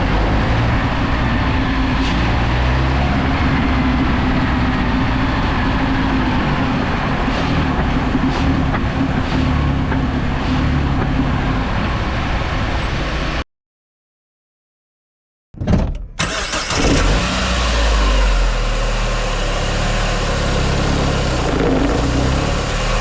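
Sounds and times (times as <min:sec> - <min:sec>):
car engine revving: 0:00.0 - 0:12.5, 0:16.2 - 0:23.0.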